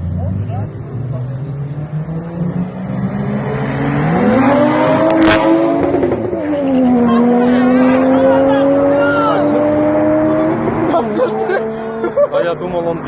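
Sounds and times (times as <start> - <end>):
race cars accelerating: 0.0 - 13.0.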